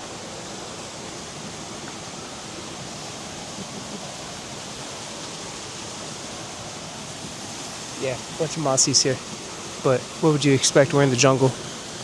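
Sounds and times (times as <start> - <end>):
waterfall and stream roaring: 0.0 - 12.0.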